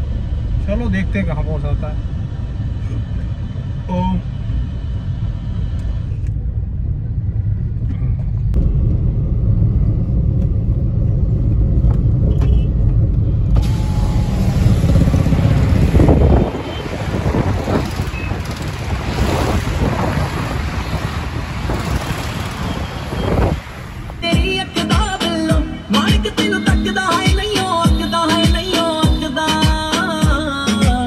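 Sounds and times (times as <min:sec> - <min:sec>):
traffic and wind rush: 0:00.0 - 0:29.1
car road and engine rumble: 0:00.0 - 0:31.0.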